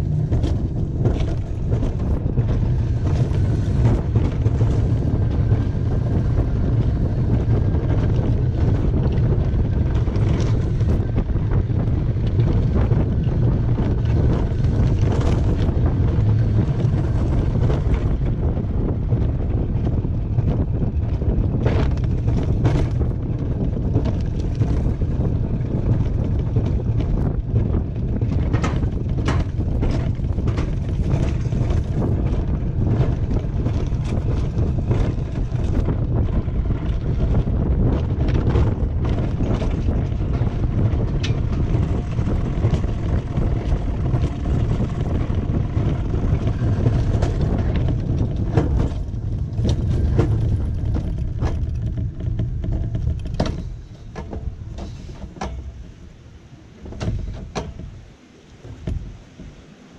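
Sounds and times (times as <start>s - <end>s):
coaster sled rumbling on track: 0.0s - 59.9s
wind buffeting microphone: 0.0s - 59.9s.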